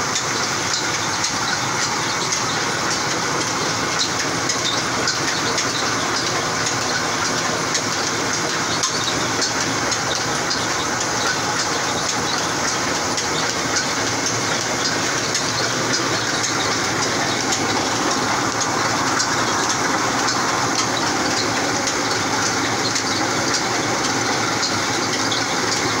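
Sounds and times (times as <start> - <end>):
oil expeller machine running: 0.0 - 26.0
rapid irregular clicking: 0.0 - 26.0.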